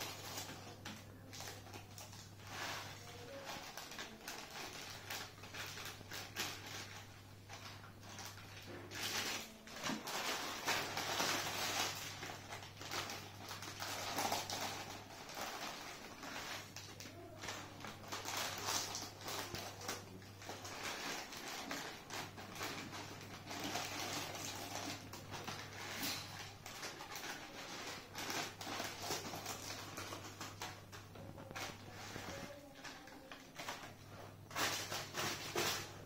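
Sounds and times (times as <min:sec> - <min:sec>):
plastic pouches crinkling: 0:00.0 - 0:36.0.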